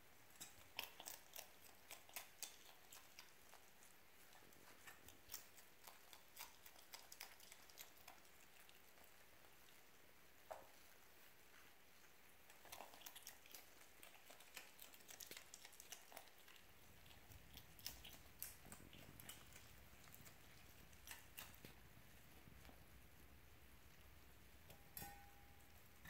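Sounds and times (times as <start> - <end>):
fox chewing and crunching food: 0.0 - 26.0.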